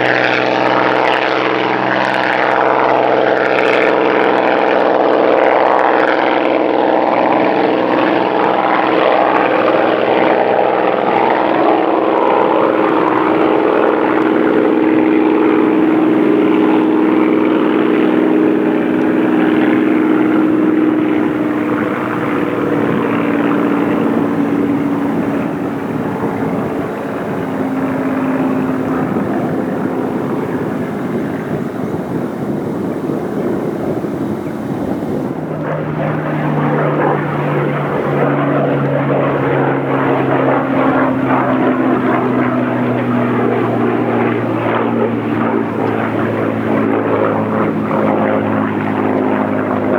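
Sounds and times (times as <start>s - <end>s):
propeller aircraft engine drone: 0.0s - 49.9s.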